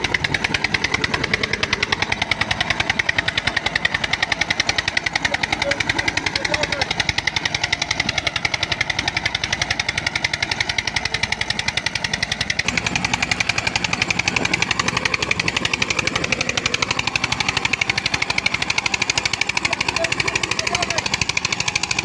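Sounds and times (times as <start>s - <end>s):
thudding exhaust beat: 0.0s - 22.0s
tractor diesel engines under load: 0.0s - 22.0s.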